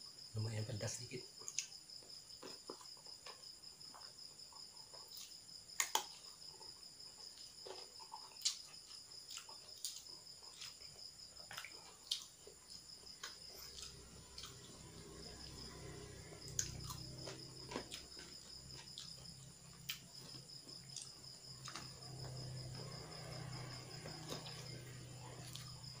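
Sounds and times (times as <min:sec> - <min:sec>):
crickets chirping: 0:00.0 - 0:26.0
person chewing food: 0:01.4 - 0:26.0.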